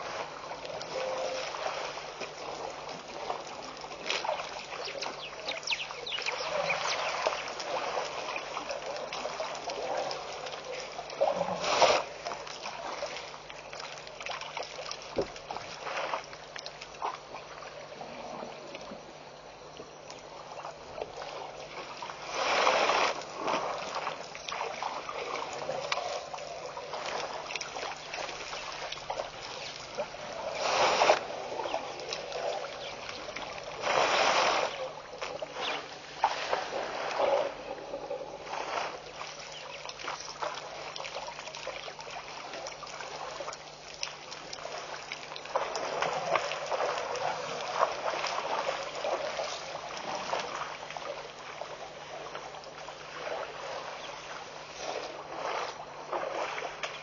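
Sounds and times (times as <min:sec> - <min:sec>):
water splashing: 0:00.0 - 0:19.7, 0:20.3 - 0:57.0
faint low hum: 0:00.0 - 0:57.0
water sloshing and trickling: 0:00.0 - 0:57.0.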